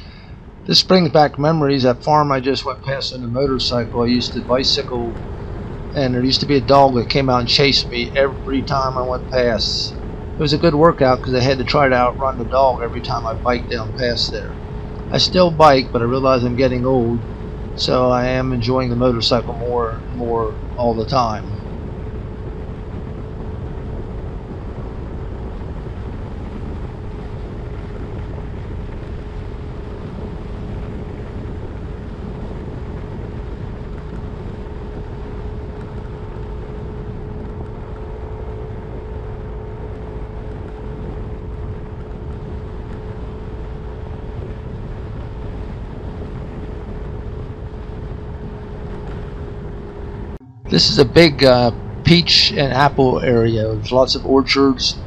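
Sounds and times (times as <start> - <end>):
scooter engine whining: 0.0 - 55.0
wind rumbling on microphone: 0.0 - 55.0.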